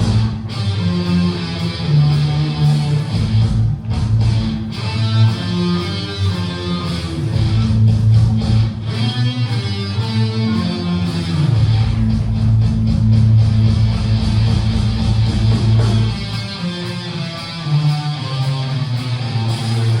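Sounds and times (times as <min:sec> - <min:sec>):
guitar-led instrumental music: 0:00.0 - 0:20.0.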